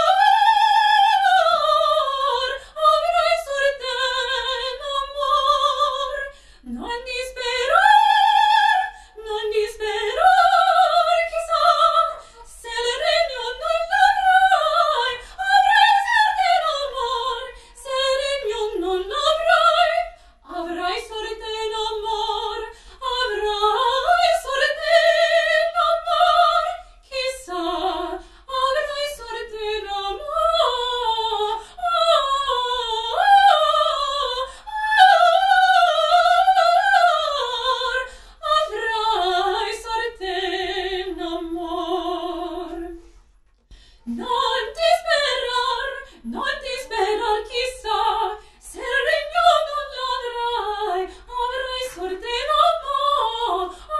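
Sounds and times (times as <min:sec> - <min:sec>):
woman singing opera: 0:00.0 - 0:43.1, 0:44.0 - 0:53.9.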